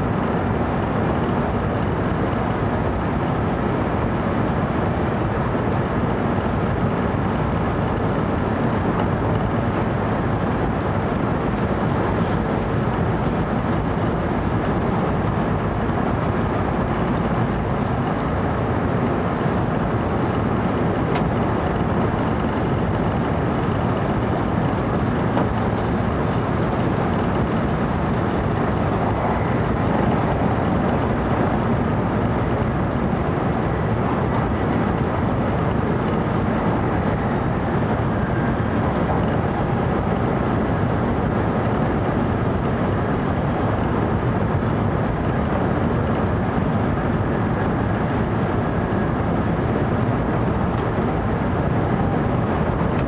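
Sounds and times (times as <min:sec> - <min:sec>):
train running at speed: 0:00.0 - 0:53.0.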